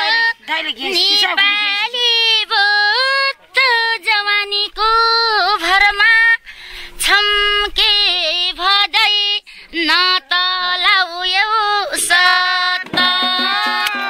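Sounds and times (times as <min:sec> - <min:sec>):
woman singing folk song: 0:00.0 - 0:14.0.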